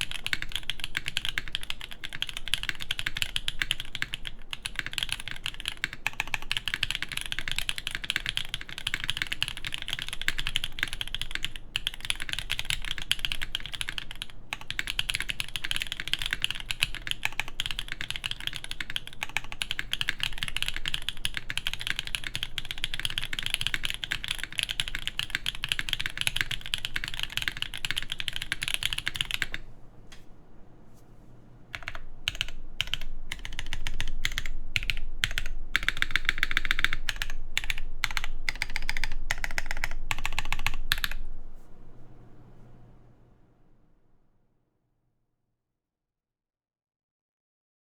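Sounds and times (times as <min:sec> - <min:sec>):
fast mechanical keyboard typing: 0:00.0 - 0:29.6, 0:31.7 - 0:41.2.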